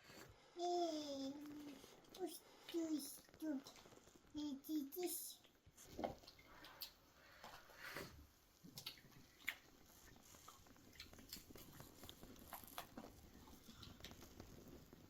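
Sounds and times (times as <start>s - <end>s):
faint clicks and rustles: 0.0s - 15.0s.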